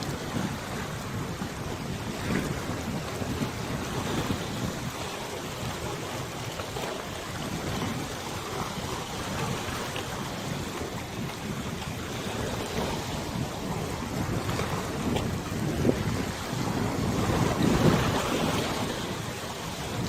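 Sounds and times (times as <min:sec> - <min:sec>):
river water lapping: 0:00.0 - 0:20.0
wind buffeting microphone: 0:00.0 - 0:20.0.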